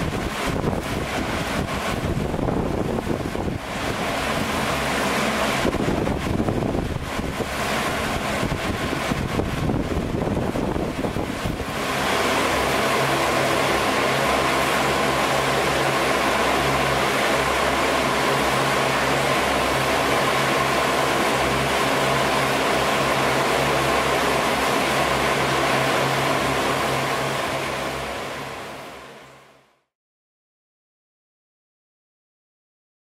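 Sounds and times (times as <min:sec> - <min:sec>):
electric fans whirring: 0:00.0 - 0:29.5
motor hum: 0:00.0 - 0:29.6
high whine: 0:00.0 - 0:29.8.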